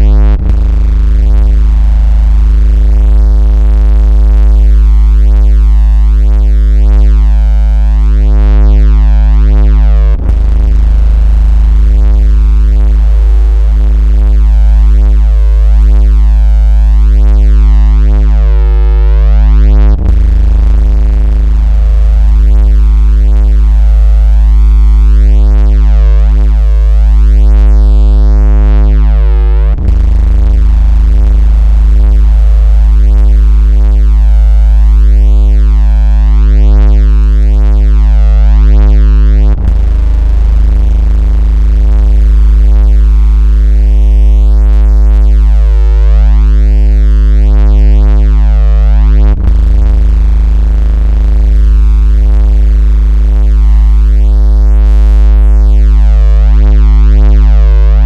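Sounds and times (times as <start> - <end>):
deep buzzing vibration tone: 0.0 - 58.0.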